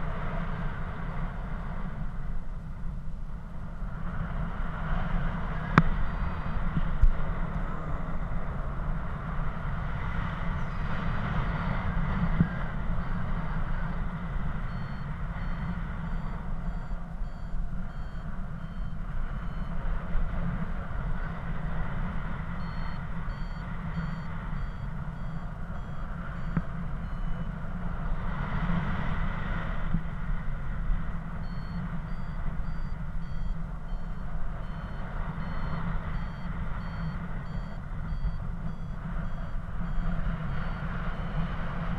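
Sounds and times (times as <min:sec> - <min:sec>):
wind rush on microphone: 0:00.0 - 0:41.9
variometer beeps: 0:05.4 - 0:08.0, 0:09.7 - 0:29.2, 0:29.8 - 0:41.9.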